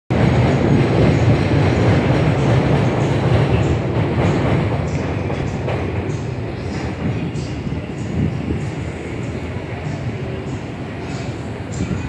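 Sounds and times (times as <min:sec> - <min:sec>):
low rumble of city noise: 0:00.1 - 0:12.0.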